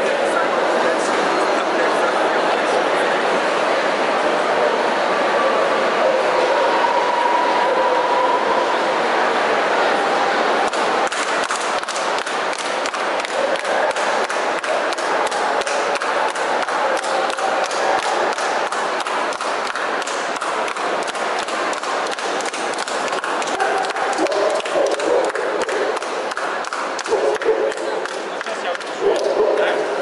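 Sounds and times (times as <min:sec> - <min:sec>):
crowd noise: 0:00.0 - 0:30.0.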